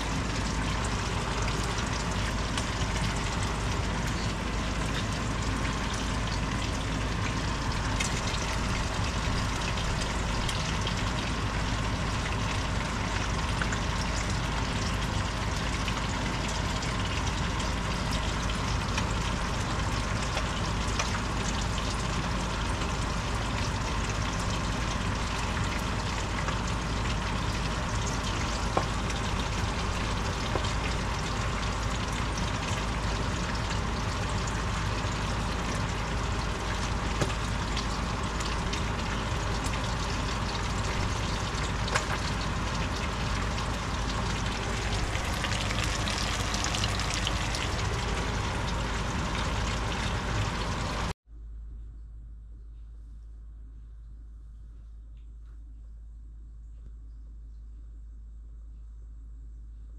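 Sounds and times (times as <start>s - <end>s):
food simmering in a frying pan: 0.0s - 51.2s.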